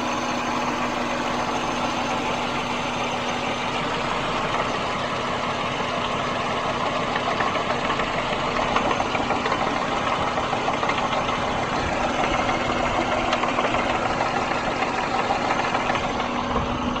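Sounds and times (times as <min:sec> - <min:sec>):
car engine idling rough: 0:00.0 - 0:17.0
engine knocking: 0:00.0 - 0:17.0.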